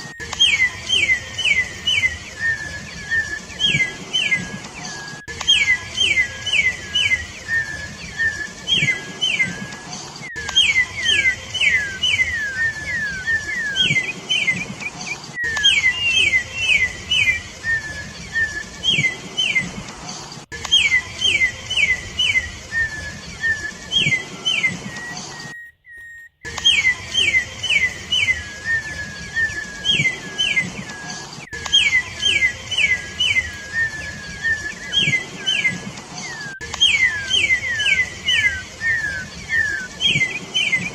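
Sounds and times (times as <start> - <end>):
bird whistling song: 0.0 - 40.9.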